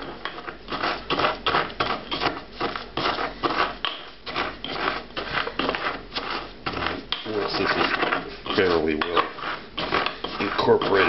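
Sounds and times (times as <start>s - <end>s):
pestle grinding in a mortar: 0.0s - 11.0s.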